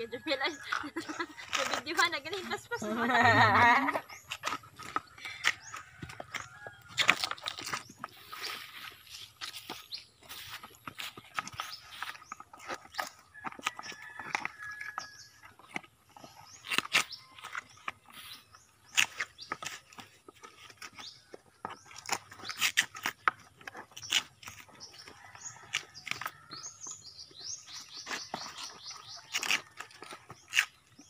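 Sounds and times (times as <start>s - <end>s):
birds chirping: 0.0s - 31.0s
knife scraping coconut: 0.3s - 31.0s.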